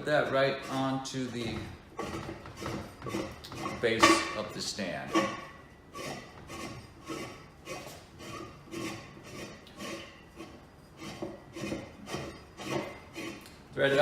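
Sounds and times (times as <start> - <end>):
metal-on-metal scrapes: 0.0 - 14.0.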